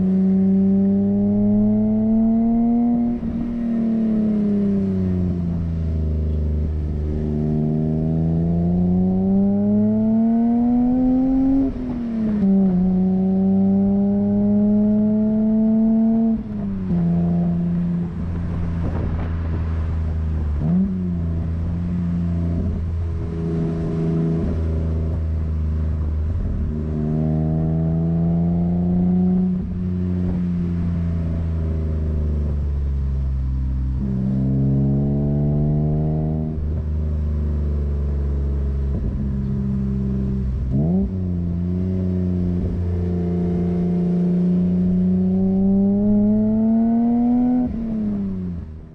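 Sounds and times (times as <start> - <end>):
car exhaust revving: 0.0 - 48.9.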